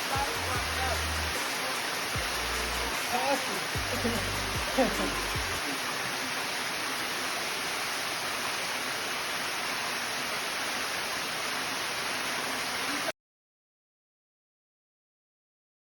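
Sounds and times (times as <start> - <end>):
waterfall and creek rushing: 0.0 - 13.1.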